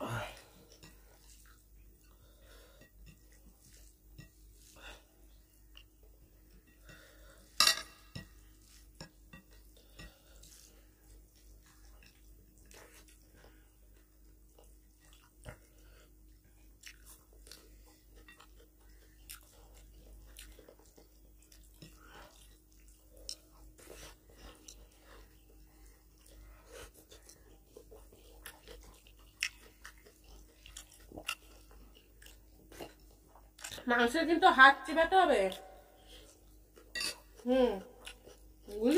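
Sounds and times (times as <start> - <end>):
people chewing: 0.0 - 34.5, 35.1 - 38.9.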